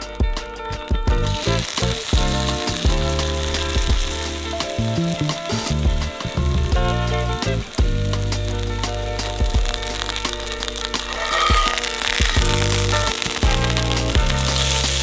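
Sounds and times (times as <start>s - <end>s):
background music: 0.0s - 15.0s
food frying sizzle: 0.0s - 15.0s.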